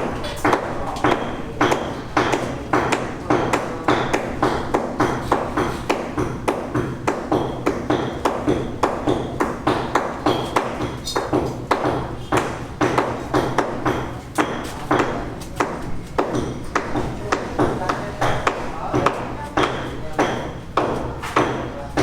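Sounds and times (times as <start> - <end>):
rapid hammering with metallic ring: 0.0 - 22.0.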